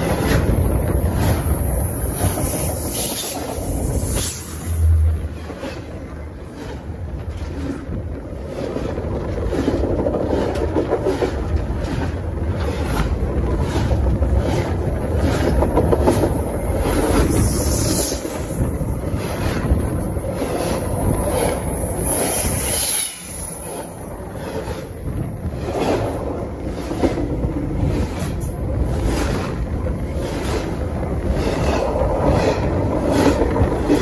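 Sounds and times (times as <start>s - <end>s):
train wheels rumbling on rails: 0.0s - 34.0s
wind buffeting microphone: 0.0s - 34.0s.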